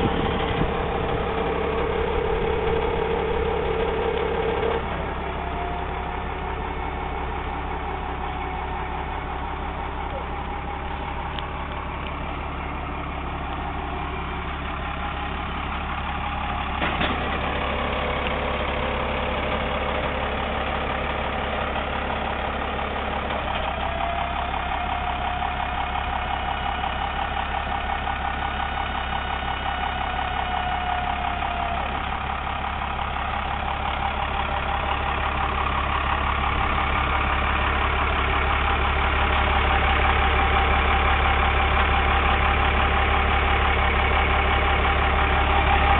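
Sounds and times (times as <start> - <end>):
hydraulic pump whine: 0.0 - 20.4, 22.9 - 42.8
diesel engine idling: 0.0 - 45.9.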